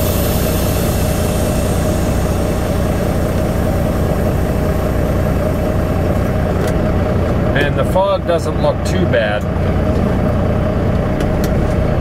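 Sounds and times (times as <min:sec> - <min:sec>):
diesel engine idling: 0:00.0 - 0:12.0
steady hum: 0:00.0 - 0:12.0.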